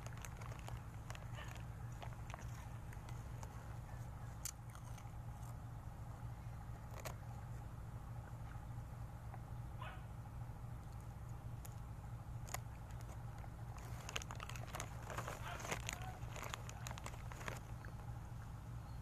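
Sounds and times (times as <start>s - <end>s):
dogs crunching snacks on gravel: 0.0s - 8.6s, 10.8s - 18.6s
low hum: 0.0s - 19.0s.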